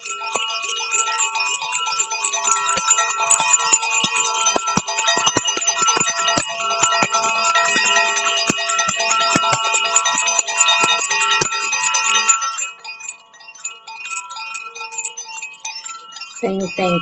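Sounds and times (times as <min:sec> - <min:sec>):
metal chimes ringing: 0:00.0 - 0:17.0.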